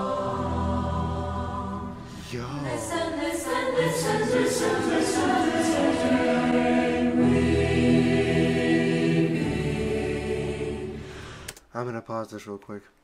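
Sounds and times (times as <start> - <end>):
choir singing: 0.0 - 11.3.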